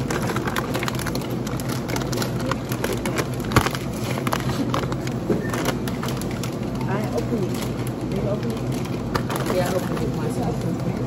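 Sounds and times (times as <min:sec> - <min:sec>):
chip bag crinkling: 0:00.0 - 0:11.0
store background hum: 0:00.0 - 0:11.0.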